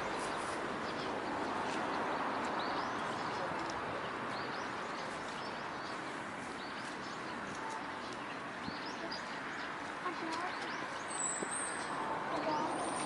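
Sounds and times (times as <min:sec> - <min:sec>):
outdoor hubbub: 0:00.0 - 0:13.0
small birds chirping: 0:00.0 - 0:13.0.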